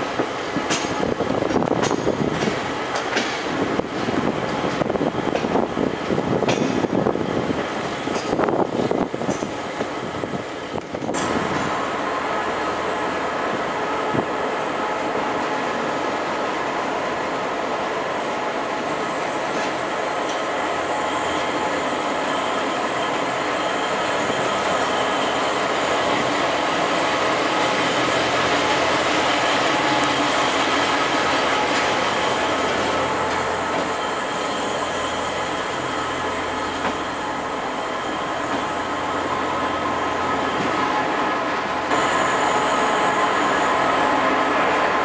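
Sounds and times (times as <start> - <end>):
diesel locomotive idling: 0.0 - 45.0.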